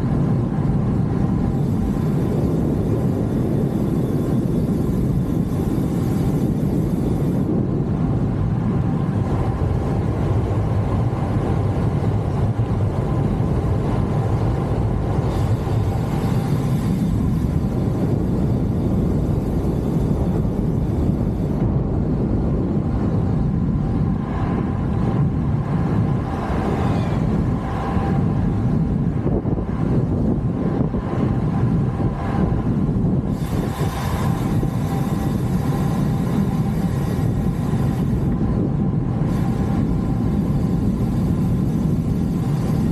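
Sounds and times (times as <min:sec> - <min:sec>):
tyre and road noise: 0:00.0 - 0:42.9
wind rushing over microphone: 0:00.0 - 0:42.9.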